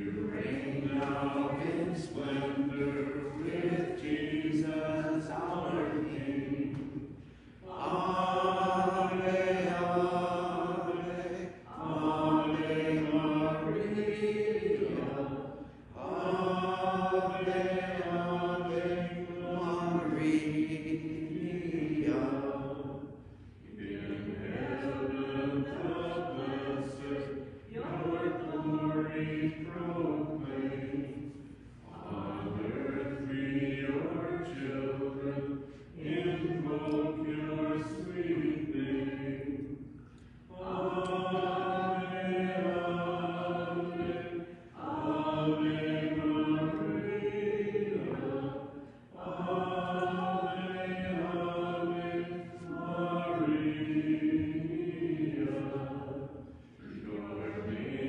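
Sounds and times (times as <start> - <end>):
people singing a hymn: 0.0 - 58.0.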